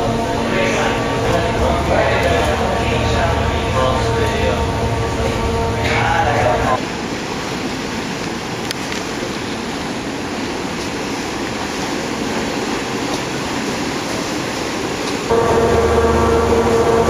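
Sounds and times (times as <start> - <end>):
lake water rushing: 0.0 - 17.0
machinery hum: 0.0 - 17.0
wind: 0.0 - 17.0.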